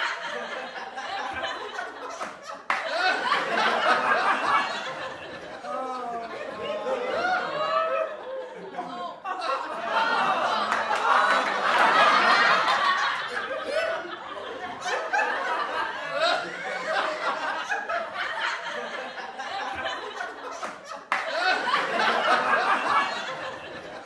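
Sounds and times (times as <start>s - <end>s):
group of people laughing: 0.0s - 24.0s.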